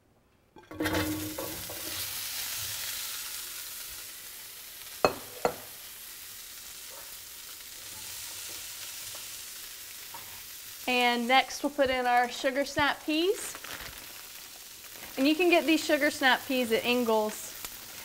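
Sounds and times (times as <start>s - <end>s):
vegetables sizzling in hot oil: 0.7s - 18.0s.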